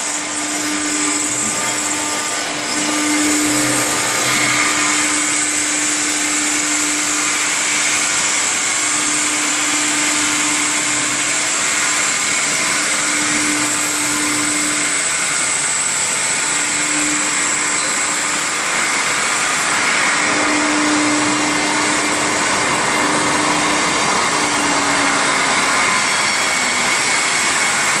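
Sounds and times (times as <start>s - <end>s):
router spindle whining: 0.0s - 28.0s.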